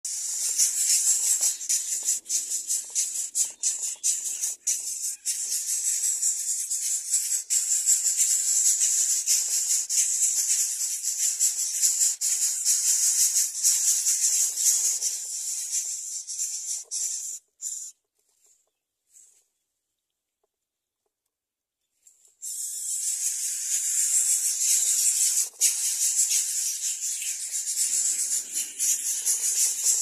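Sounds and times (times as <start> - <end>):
bird chicks hissing: 0.1 - 17.9, 22.3 - 30.0.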